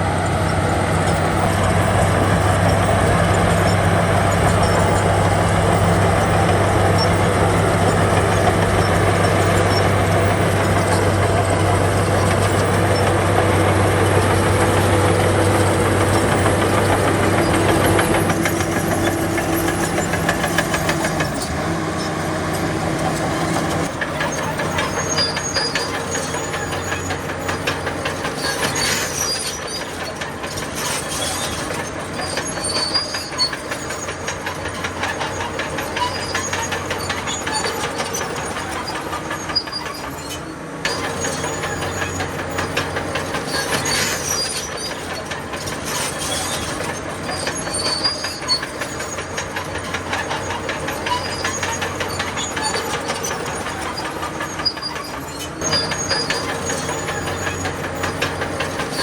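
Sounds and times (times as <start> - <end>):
bulldozer diesel engine droning: 0.0 - 59.0
crawler tracks clanking: 0.0 - 59.0.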